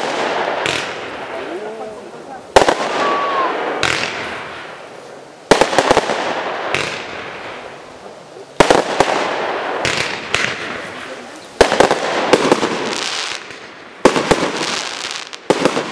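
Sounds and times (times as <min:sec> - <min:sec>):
fireworks bursting: 0:00.0 - 0:15.9.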